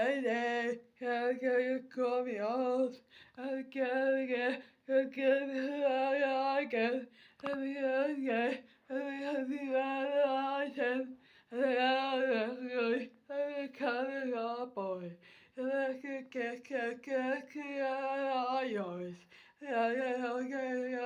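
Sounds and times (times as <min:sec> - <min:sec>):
person singing unaccompanied: 0:00.0 - 0:21.0.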